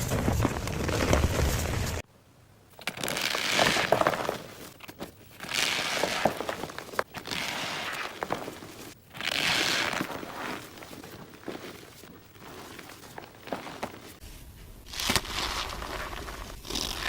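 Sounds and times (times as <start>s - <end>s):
powder crunching and crackling: 0.0s - 2.0s, 2.8s - 14.2s, 14.9s - 17.0s.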